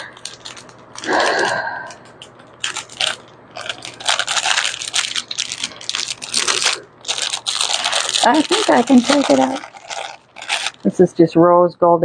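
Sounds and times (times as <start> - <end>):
plastic packaging rustling: 0.0 - 11.1.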